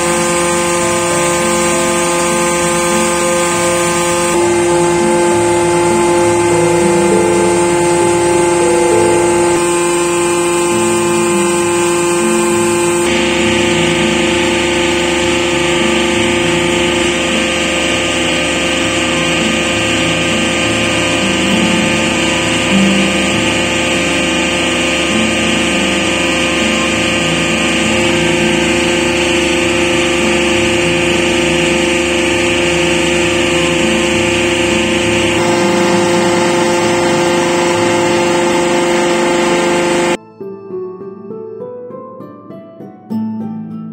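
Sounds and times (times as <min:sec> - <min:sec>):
hydraulic motor and pump whining: 0:00.0 - 0:40.2.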